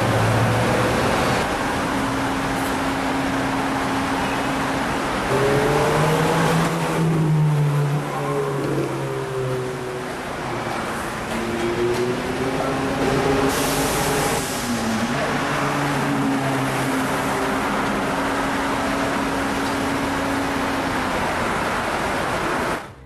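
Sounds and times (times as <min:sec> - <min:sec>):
car engines passing: 0:00.0 - 0:23.0
road noise: 0:00.0 - 0:23.0.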